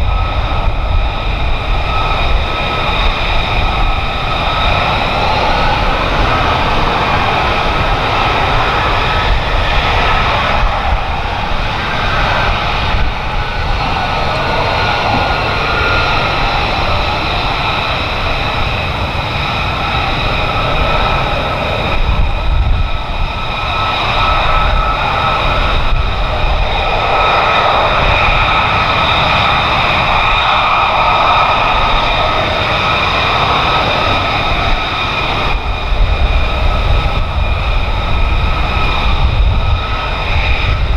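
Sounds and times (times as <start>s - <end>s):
jet engine rushing and whining: 0.0s - 40.9s.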